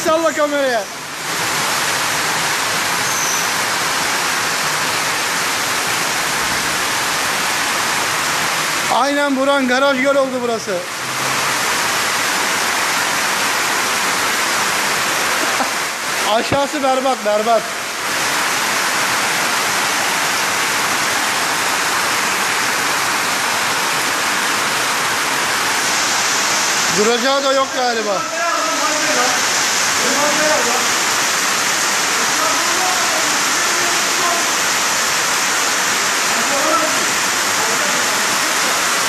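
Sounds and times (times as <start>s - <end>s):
floodwater rushing: 0.0s - 39.0s.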